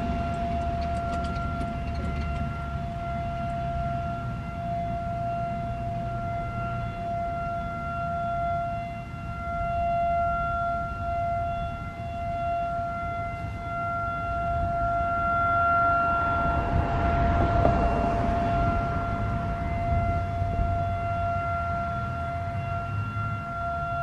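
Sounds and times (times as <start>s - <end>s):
outdoor warning siren steady tone: 0.0s - 24.0s.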